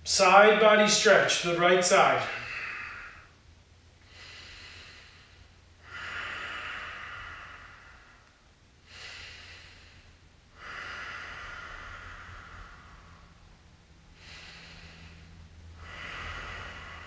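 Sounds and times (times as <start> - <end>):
man breathing deeply: 1.9 - 3.4, 4.0 - 17.0.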